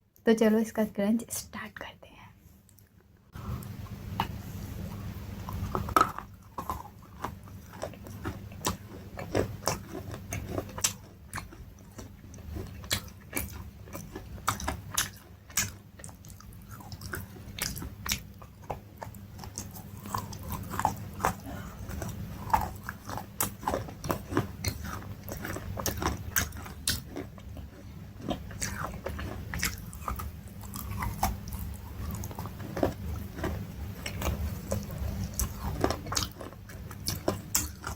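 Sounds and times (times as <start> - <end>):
crunchy eating and chewing: 3.4 - 37.9.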